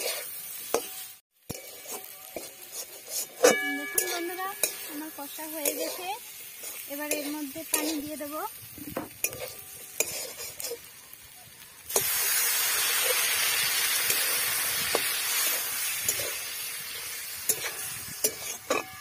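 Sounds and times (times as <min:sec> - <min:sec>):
water hissing in hot wok: 0:00.0 - 0:19.0.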